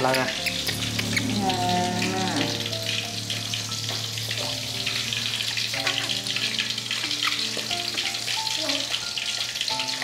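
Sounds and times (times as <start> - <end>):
food sizzling in a pan: 0.0 - 10.0
soft melody of held notes: 0.0 - 10.0.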